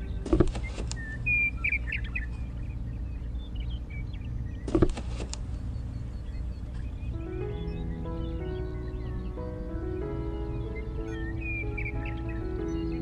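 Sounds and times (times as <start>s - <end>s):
bird chirping: 0.0s - 13.0s
steady low hum: 0.0s - 13.0s.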